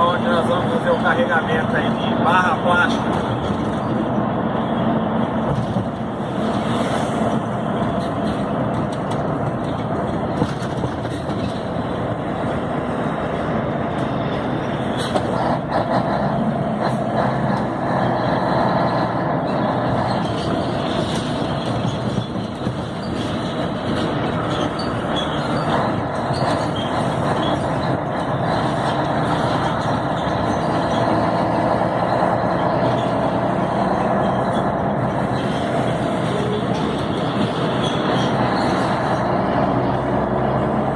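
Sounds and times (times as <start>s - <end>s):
road and cab noise: 0.0s - 40.9s
truck diesel engine running: 0.0s - 40.9s.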